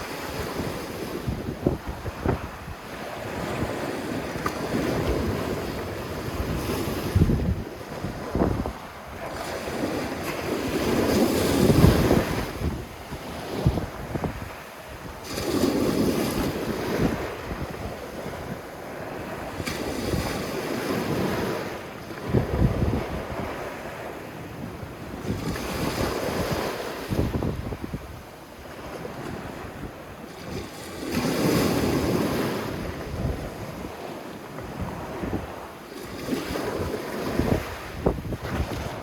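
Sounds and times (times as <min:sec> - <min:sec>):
sea waves breaking on beach: 0:00.0 - 0:39.0
wind buffeting microphone: 0:00.0 - 0:39.0.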